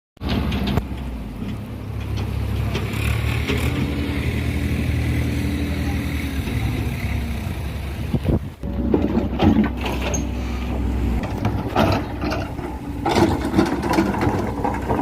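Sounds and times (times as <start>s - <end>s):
diesel engine running: 0.2s - 15.0s.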